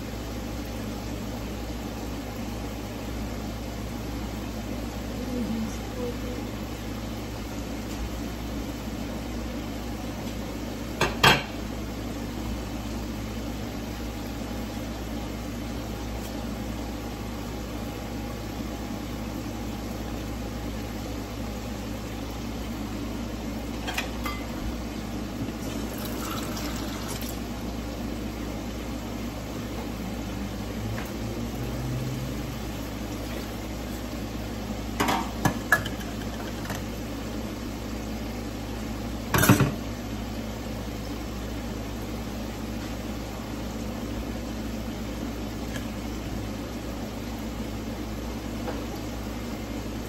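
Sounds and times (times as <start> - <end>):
kitchen hum: 0.0 - 50.0.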